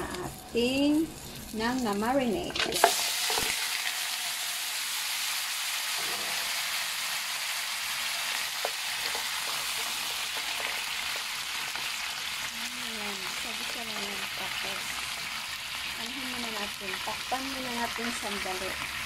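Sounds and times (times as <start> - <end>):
meat sizzling in hot oil: 0.1 - 19.0.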